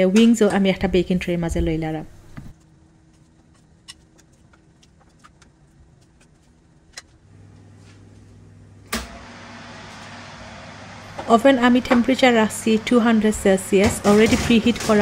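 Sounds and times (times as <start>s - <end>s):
oven humming: 0.0s - 15.0s.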